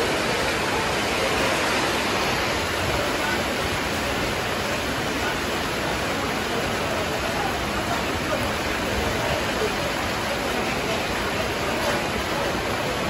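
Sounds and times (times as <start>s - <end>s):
heavy rain on a street: 0.0s - 13.0s.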